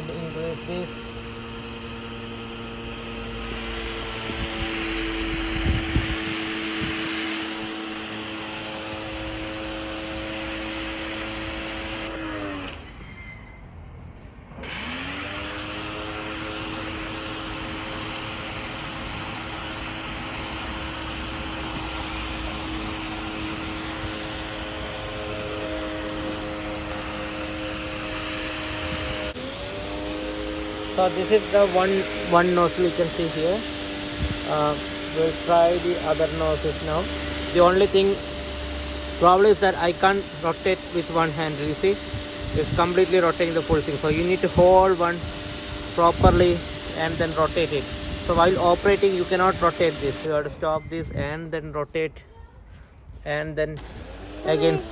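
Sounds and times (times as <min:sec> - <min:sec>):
water jet hissing: 0:00.0 - 0:12.2, 0:14.9 - 0:50.3, 0:53.8 - 0:54.9
pressure washer motor humming: 0:00.0 - 0:12.9, 0:14.6 - 0:50.4, 0:53.8 - 0:54.9.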